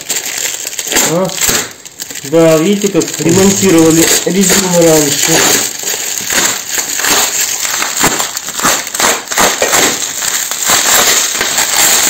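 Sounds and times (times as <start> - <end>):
bubble wrap crackling: 0.0 - 12.0.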